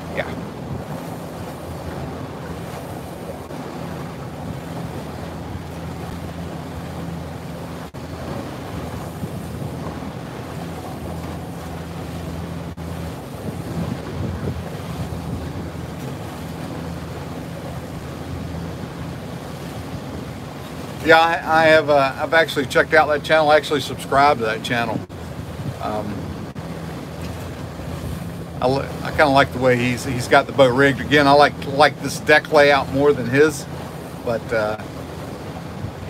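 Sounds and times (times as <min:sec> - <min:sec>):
wind on microphone: 0:00.0 - 0:30.4, 0:32.8 - 0:36.0
boat engine humming: 0:00.0 - 0:36.0
water washing against hull: 0:00.0 - 0:36.0.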